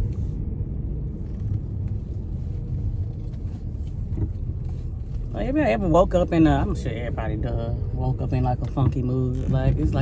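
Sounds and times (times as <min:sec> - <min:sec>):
car interior engine and road rumble: 0:00.0 - 0:10.0.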